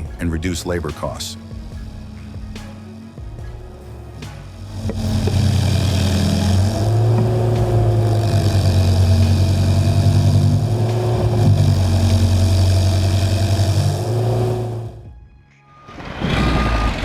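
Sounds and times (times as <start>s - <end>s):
engine running steadily: 0.0s - 15.1s.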